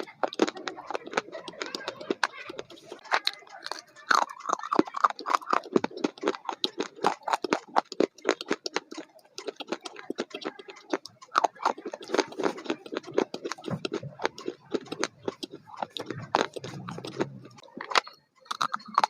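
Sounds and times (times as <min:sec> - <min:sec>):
chewing crunchy food: 0:00.0 - 0:19.0
mouth clicks: 0:00.0 - 0:19.0.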